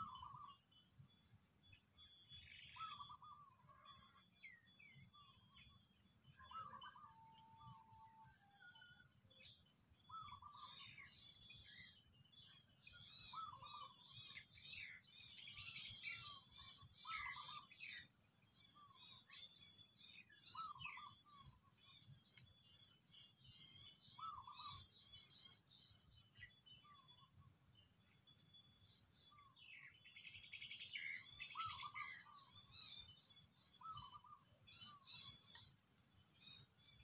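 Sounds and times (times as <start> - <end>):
lower bird calls: 0.0 - 0.8, 1.7 - 27.5, 28.2 - 37.0
birds chirping: 0.0 - 37.0.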